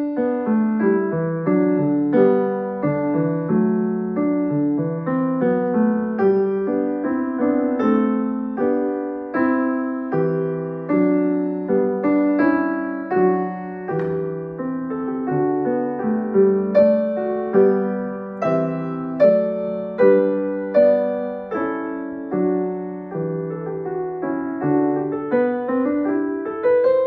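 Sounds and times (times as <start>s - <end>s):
grand piano playing chords: 0.0s - 27.0s.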